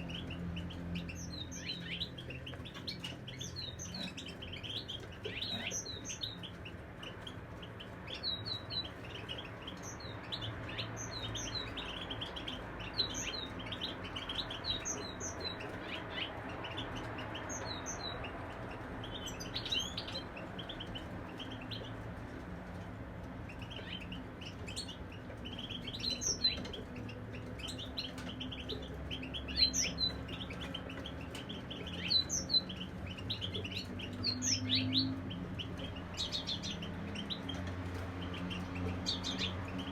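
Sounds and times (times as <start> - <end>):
finches singing: 0.0 - 22.0, 23.5 - 39.9.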